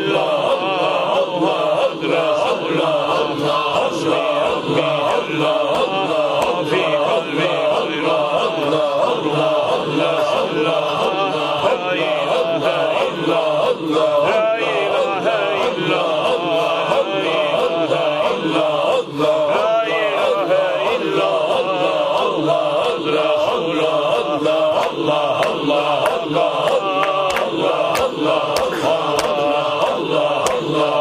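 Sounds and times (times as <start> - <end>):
men chanting in unison: 0.0 - 31.0.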